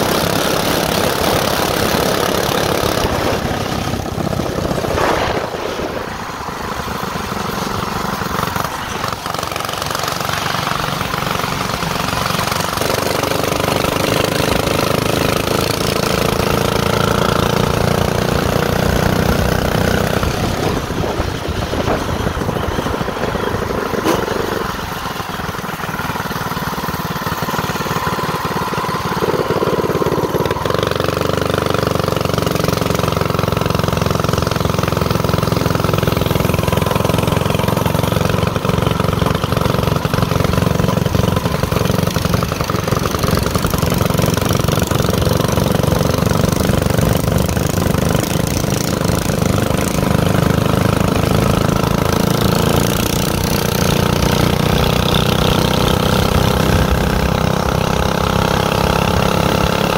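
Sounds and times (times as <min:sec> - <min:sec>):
small motorbike engine running: 0:00.0 - 0:59.9.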